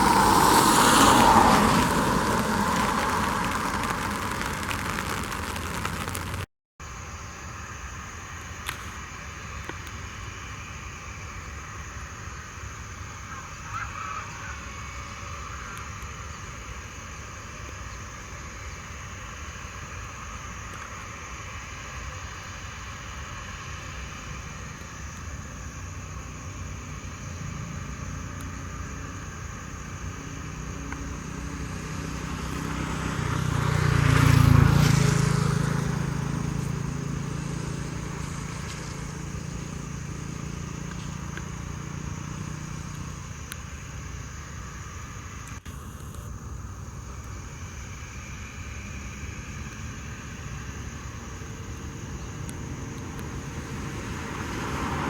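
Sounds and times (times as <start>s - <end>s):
jet engines passing by: 0.0s - 6.5s, 8.0s - 55.0s.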